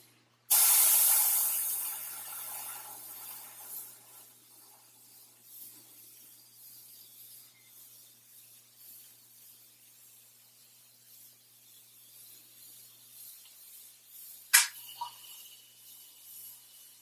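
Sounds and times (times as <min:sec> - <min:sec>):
airbrush air hiss: 0:00.0 - 0:17.0.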